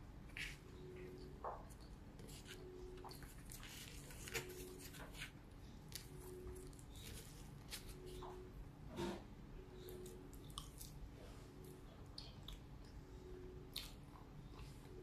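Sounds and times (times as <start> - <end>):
soft squishing of noodles: 0.2 - 8.4, 9.8 - 15.0.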